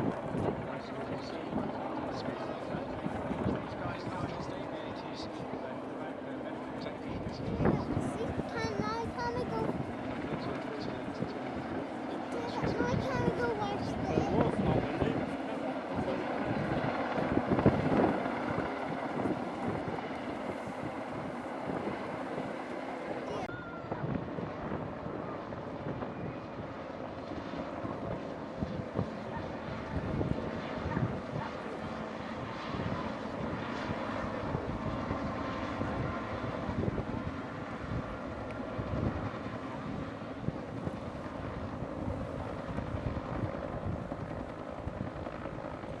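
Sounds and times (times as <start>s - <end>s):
wind on microphone: 0.0s - 1.8s, 2.5s - 4.5s, 7.1s - 22.6s, 23.2s - 26.7s, 27.7s - 46.0s
helicopter rotor and engine: 0.0s - 46.0s.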